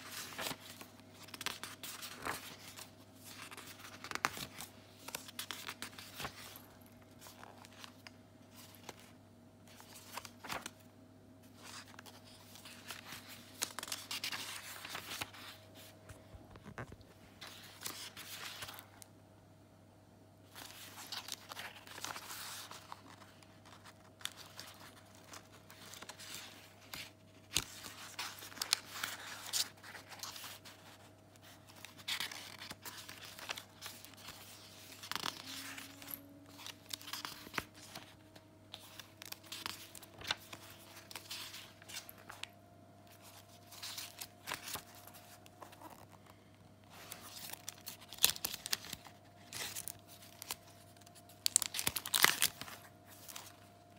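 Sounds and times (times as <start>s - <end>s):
paper pages rustling: 0.0s - 10.8s, 11.4s - 19.0s, 20.5s - 53.7s.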